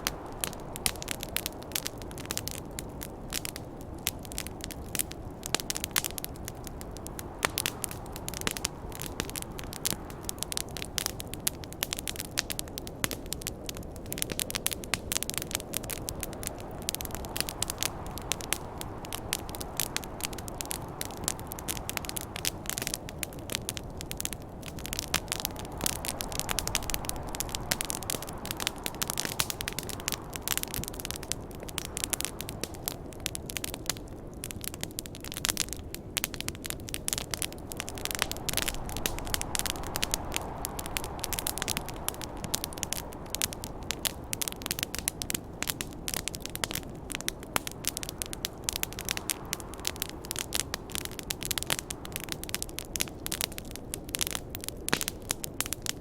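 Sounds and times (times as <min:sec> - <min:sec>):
campfire crackling and popping: 0:00.0 - 0:56.0
snowstorm wind: 0:00.0 - 0:56.0.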